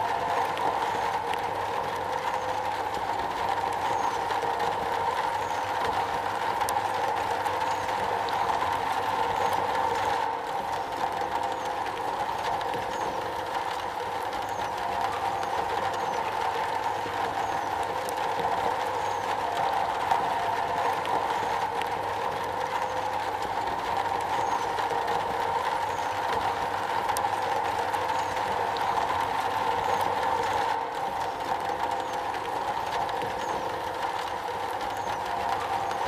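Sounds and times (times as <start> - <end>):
rain drumming on metal roof: 0.0 - 36.0.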